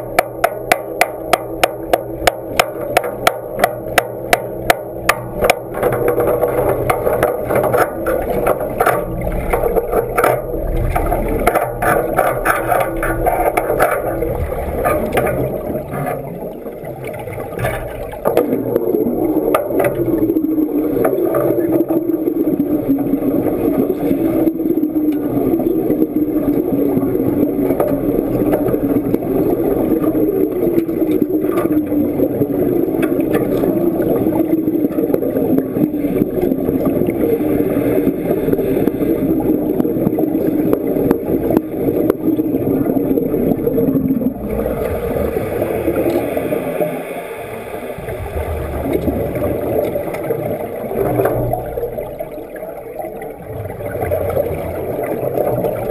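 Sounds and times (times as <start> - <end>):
underwater welding arc crackling: 0.0 - 55.9
water gurgling and bubbles: 0.0 - 55.9.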